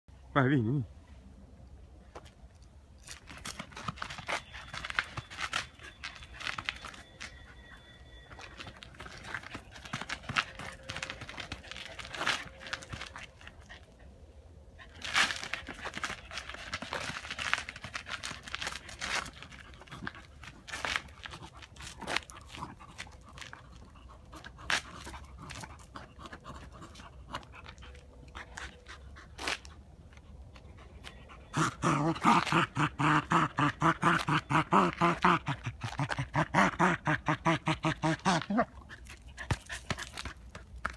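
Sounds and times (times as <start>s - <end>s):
ball and paws scuffing pavement: 2.0s - 14.0s, 14.8s - 37.0s, 37.8s - 40.9s.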